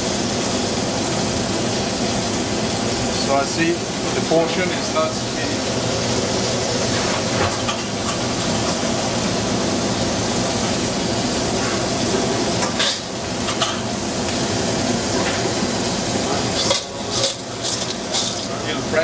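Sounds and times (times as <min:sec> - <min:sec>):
ventilation rushing: 0:00.0 - 0:19.0.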